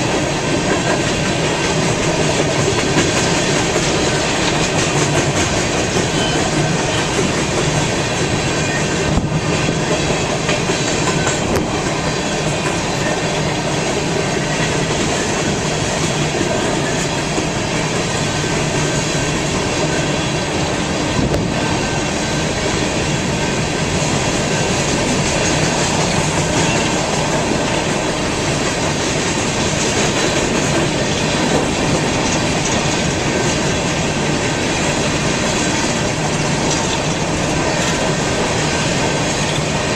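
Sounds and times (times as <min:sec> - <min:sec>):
train cars rolling past: 0:00.0 - 0:39.9.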